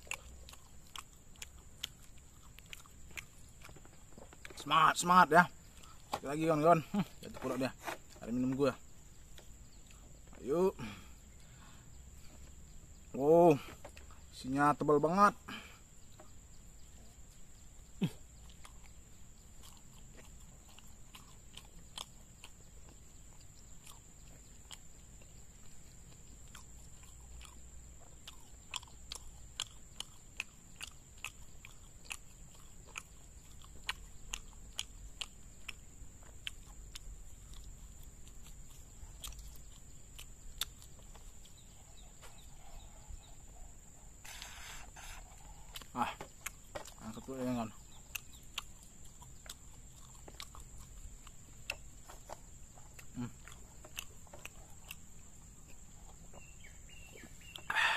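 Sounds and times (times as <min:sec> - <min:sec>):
close chewing with mouth clicks: 0:00.0 - 0:57.9.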